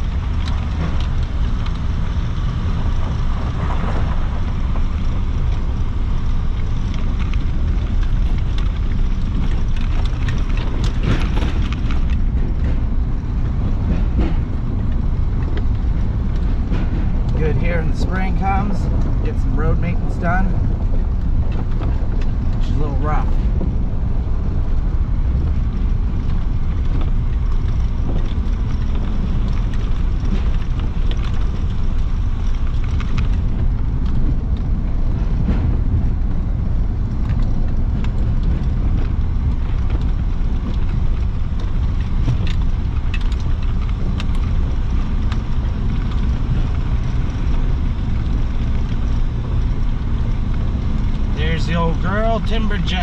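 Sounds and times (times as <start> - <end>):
light knocks and rattles: 0.0 - 51.4
vehicle engine and road rumble: 0.0 - 53.0.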